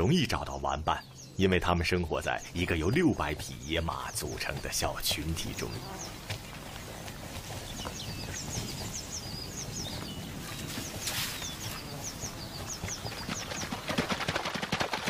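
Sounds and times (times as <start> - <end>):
small birds chirping: 0.0 - 14.2
horse hooves galloping in water: 2.6 - 15.0.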